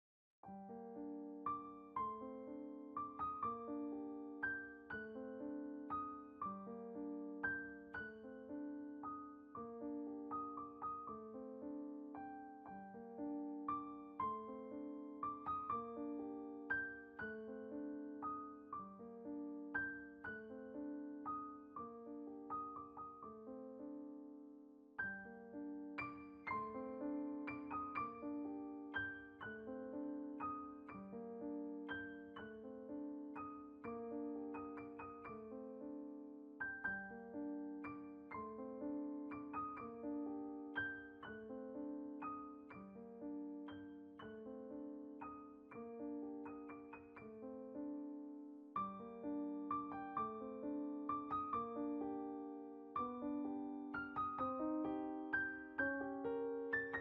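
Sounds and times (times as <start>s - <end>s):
gentle piano music: 0.4s - 57.0s.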